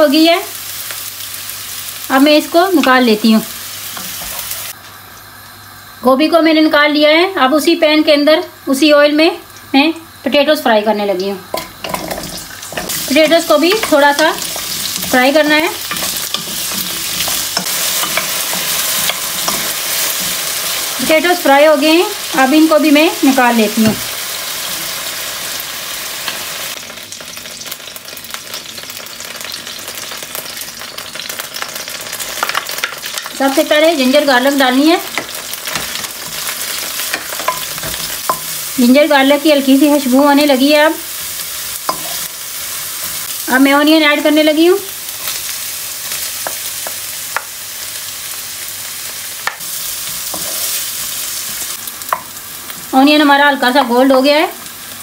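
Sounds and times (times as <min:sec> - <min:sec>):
hot oil sizzling and popping: 0:00.0 - 0:55.0.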